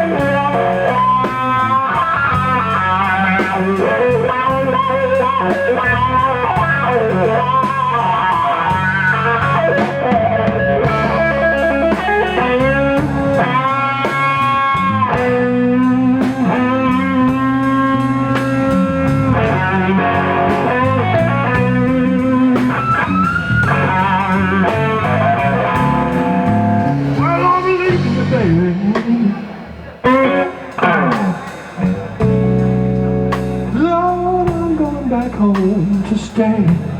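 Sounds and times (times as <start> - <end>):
electric guitar solo: 0.0 - 35.4
bass: 0.0 - 36.9
drums: 0.0 - 36.9.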